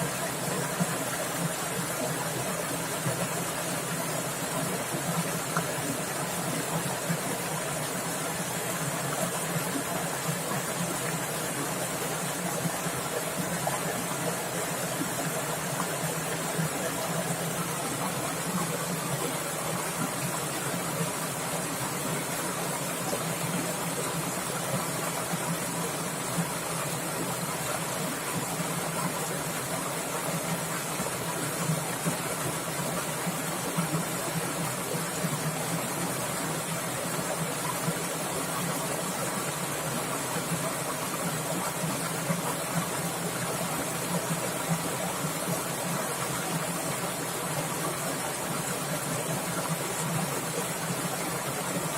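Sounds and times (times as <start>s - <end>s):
stream water babbling: 0.0s - 51.9s.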